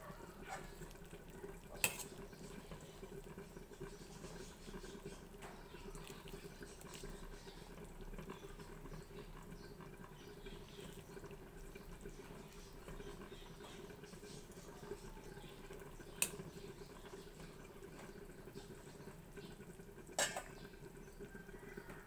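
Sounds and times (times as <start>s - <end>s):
broth simmering with bubbling pops: 0.0s - 22.0s.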